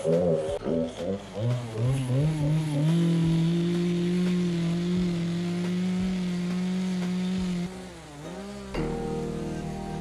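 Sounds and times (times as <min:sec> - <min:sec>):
chainsaw cutting wood: 0:00.0 - 0:10.0.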